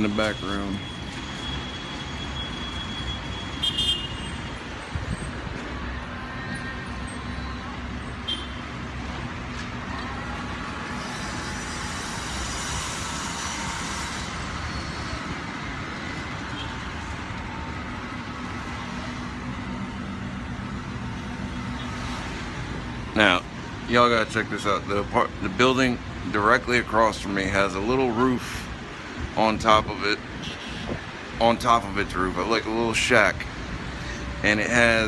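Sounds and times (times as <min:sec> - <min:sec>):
street traffic engines: 0:00.0 - 0:35.0.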